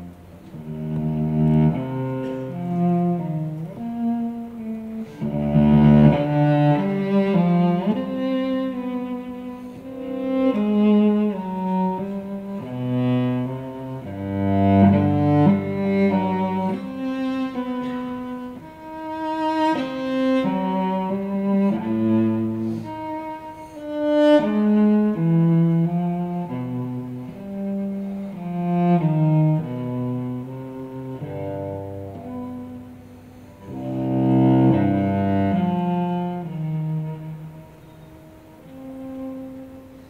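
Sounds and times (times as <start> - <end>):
bowed cello: 0.0 - 40.0.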